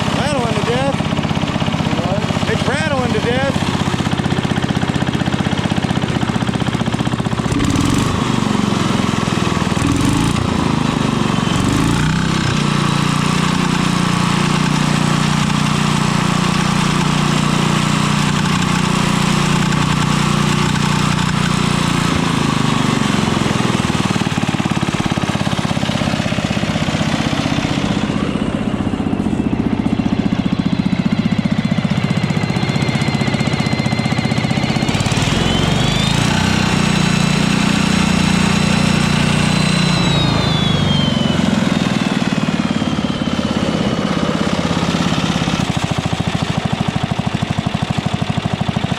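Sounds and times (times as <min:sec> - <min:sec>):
generator engine running: 0:00.0 - 0:48.9.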